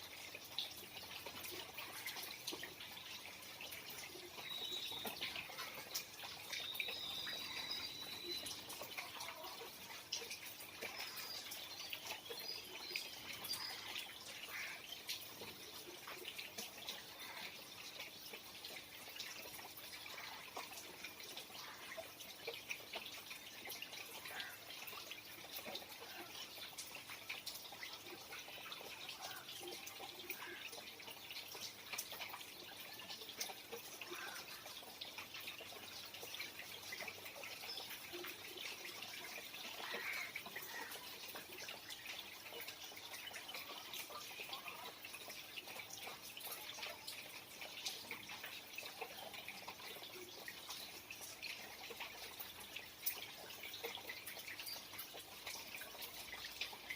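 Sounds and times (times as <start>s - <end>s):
rain falling and dripping: 0.0s - 56.9s.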